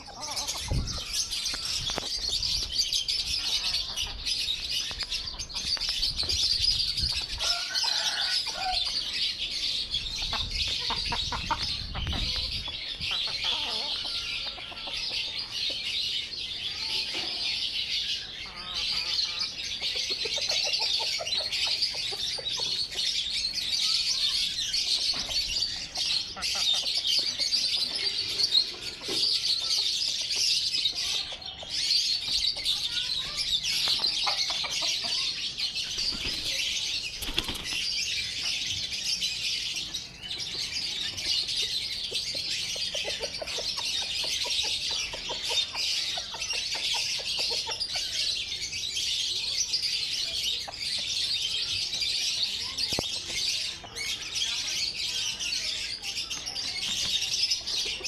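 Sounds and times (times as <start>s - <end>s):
chickens clucking: 0.0s - 58.0s
chicks peeping: 0.0s - 58.0s.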